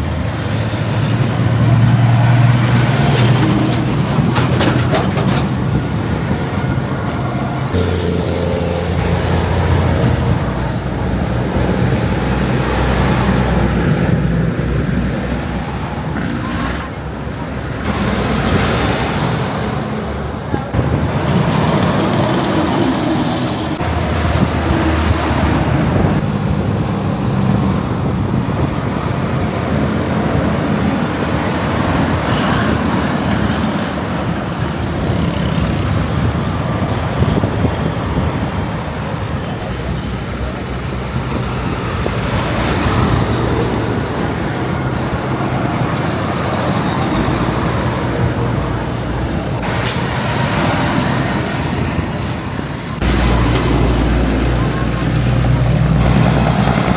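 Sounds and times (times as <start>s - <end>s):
heavy trucks engine rumble: 0.0s - 56.9s
tyre and road noise: 0.0s - 56.9s.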